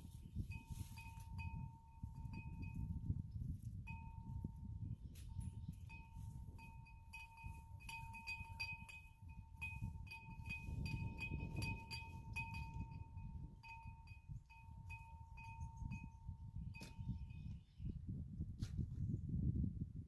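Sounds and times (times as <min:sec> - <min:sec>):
wind rumble on microphone: 0:00.0 - 0:20.0
wind chime ringing: 0:00.5 - 0:03.0, 0:03.9 - 0:17.5.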